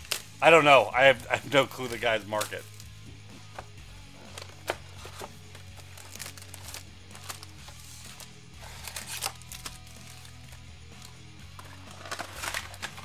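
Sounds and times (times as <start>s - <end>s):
foil card packs crinkling: 0.0s - 2.9s, 4.2s - 13.0s
quiet background music: 0.0s - 13.0s.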